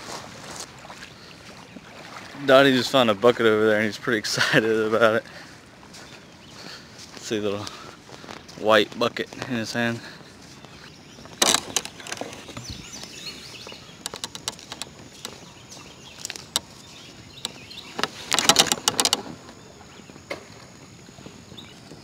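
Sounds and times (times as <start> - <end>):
footsteps crunching on sand and twigs: 0.0 - 3.6, 5.2 - 22.0
faint outdoor background: 0.0 - 22.0.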